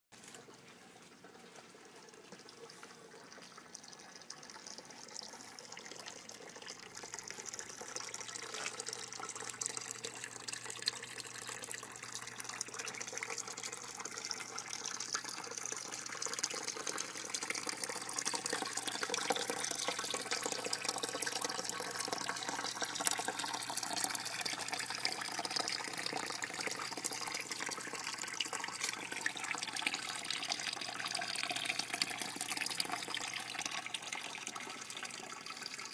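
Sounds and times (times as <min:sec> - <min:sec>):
water pouring and splashing: 0:00.2 - 0:35.9.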